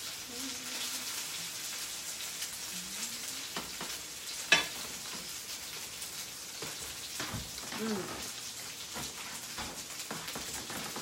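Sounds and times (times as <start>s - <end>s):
meat sizzling in skillets: 0.0s - 11.0s.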